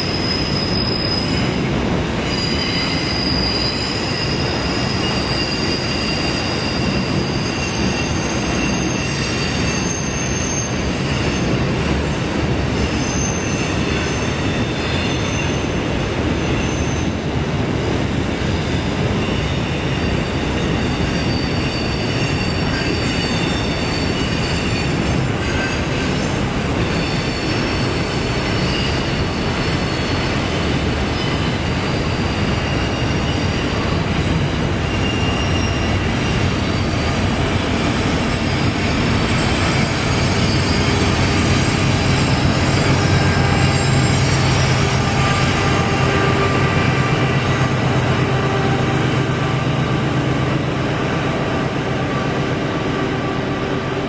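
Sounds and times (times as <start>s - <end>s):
rumble of train cars: 0.0s - 54.0s
train wheels squealing: 0.0s - 54.0s.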